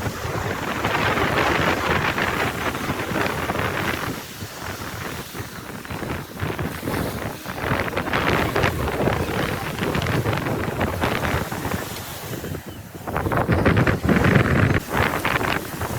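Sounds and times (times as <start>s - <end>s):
sea washing around boat: 0.0s - 15.9s
wind buffeting microphone: 0.0s - 15.9s.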